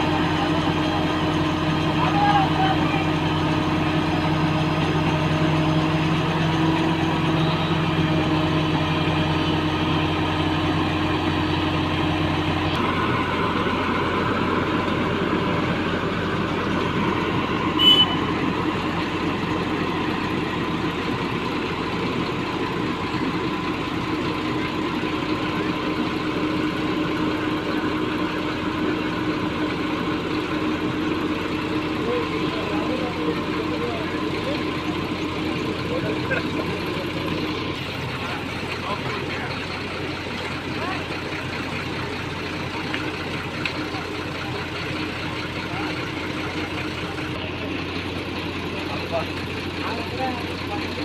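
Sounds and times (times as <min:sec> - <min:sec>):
construction machine engine running: 0:00.0 - 0:51.0.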